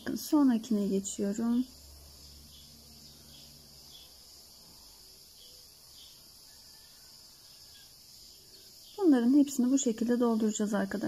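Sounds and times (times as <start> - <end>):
steady hiss: 1.0 - 9.9.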